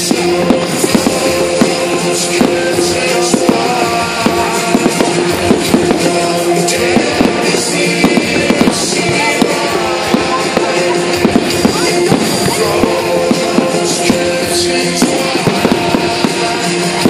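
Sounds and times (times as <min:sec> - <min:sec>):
fireworks bangs and crackles: 0:00.0 - 0:17.0
loud steady music: 0:00.0 - 0:17.0.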